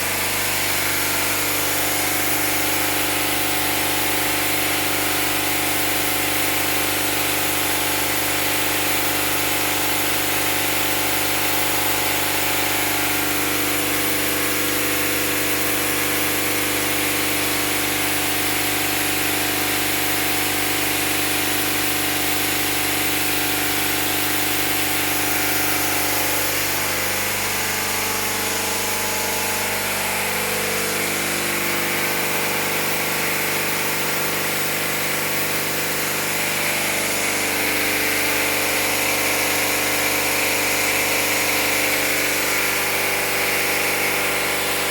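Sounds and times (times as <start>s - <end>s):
pump engine running: 0.0s - 44.9s.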